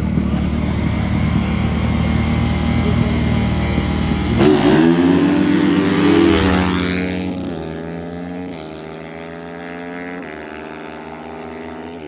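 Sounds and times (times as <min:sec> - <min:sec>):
dirt bike engine running hard: 0:00.0 - 0:12.0.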